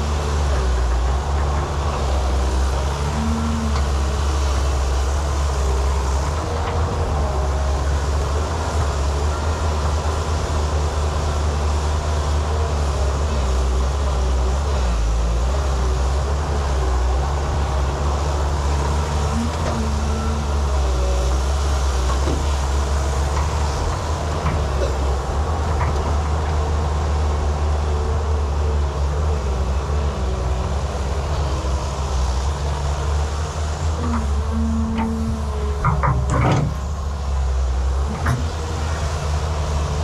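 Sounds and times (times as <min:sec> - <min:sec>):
excavator diesel engine drone: 0:00.0 - 0:40.0.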